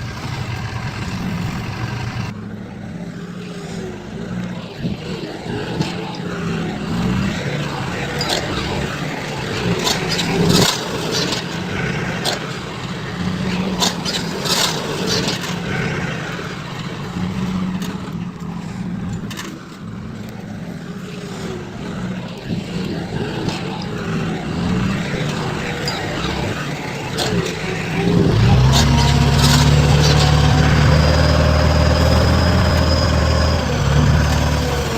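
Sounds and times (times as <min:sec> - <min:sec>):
heavy diesel machinery running: 0:00.0 - 0:34.9
machine clanking and scraping: 0:03.6 - 0:34.9.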